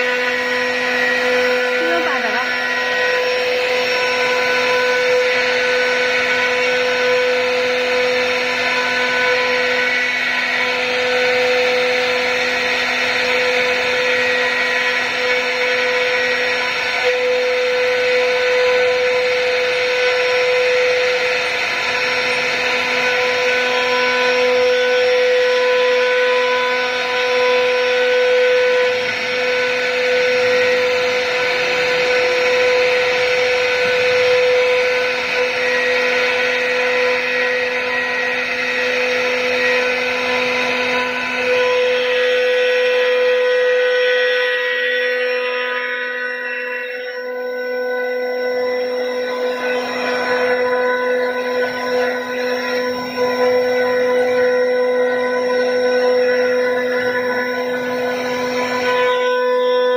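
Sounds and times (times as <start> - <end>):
router spindles whining: 0.0 - 59.9.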